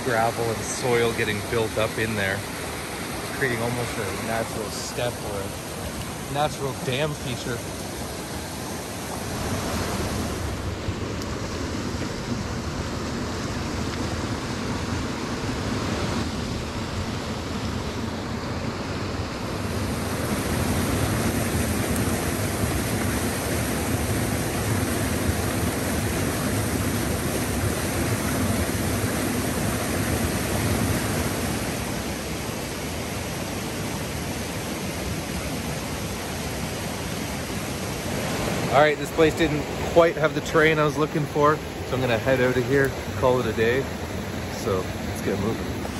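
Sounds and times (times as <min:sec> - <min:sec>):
creek water rushing: 0:00.0 - 0:45.9.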